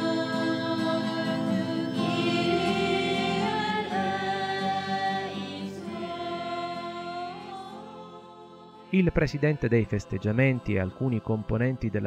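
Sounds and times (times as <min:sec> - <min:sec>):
acoustic guitar: 0:00.0 - 0:11.3
congregation singing a hymn: 0:00.0 - 0:12.0.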